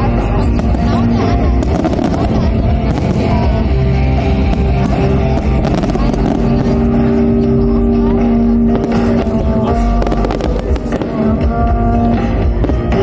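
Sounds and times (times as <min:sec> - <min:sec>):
fireworks bursting: 0:00.0 - 0:13.0
loud music with heavy bass: 0:00.0 - 0:13.0.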